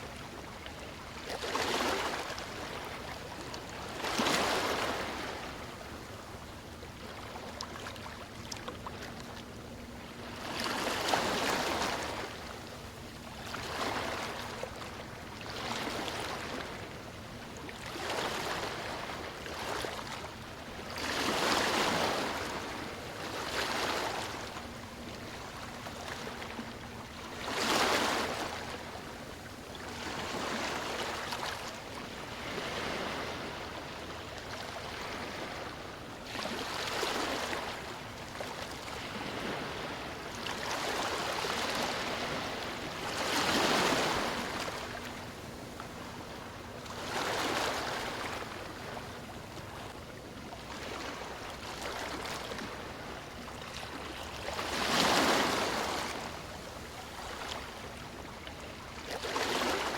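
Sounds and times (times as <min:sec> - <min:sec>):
sea waves breaking on a beach: 0:00.0 - 0:59.9.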